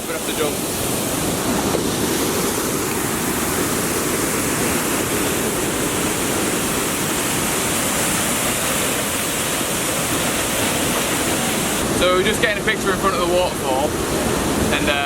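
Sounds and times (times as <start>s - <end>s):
waterfall crashing: 0.0s - 15.0s.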